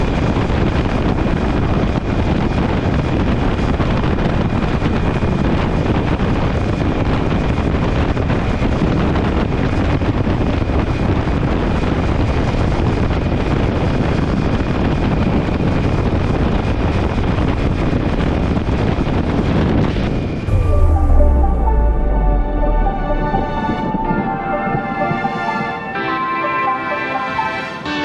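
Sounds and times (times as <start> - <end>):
strong wind on microphone: 0.0 - 24.2.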